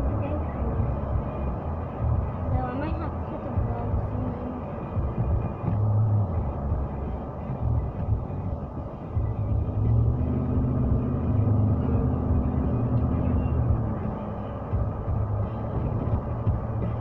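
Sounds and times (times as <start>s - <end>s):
car road and engine rumble: 0.0s - 17.0s
low steady hum: 0.0s - 17.0s.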